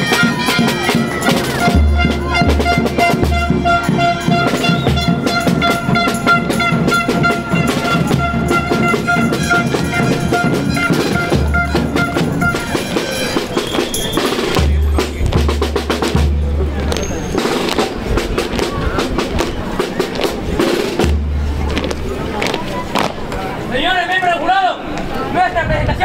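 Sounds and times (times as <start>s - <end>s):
snare and bass drums: 0.0s - 23.3s
marching band playing: 0.0s - 23.7s.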